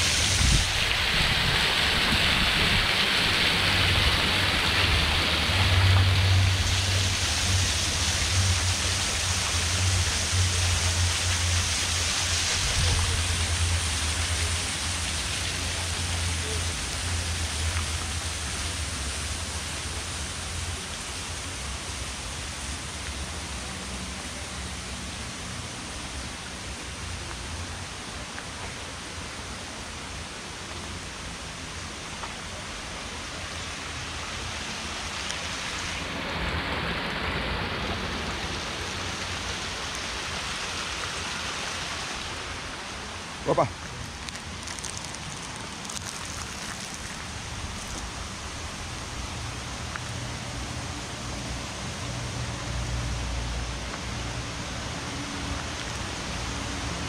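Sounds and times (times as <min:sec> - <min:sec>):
rushing water hiss: 0:00.0 - 0:57.0.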